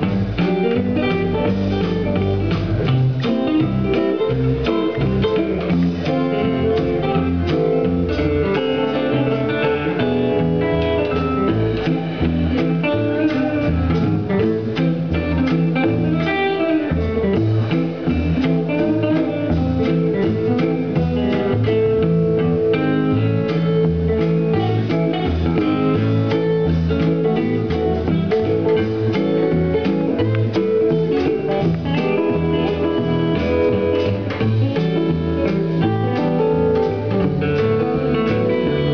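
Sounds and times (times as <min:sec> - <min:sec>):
drum kit steady beat: 0:00.0 - 0:38.9
electric guitars picking: 0:00.0 - 0:38.9.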